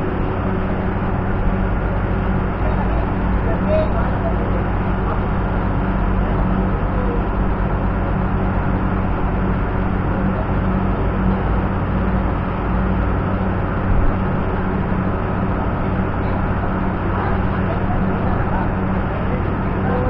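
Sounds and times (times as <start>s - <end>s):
constant low hum: 0.0s - 20.0s
machinery drone: 0.0s - 20.0s.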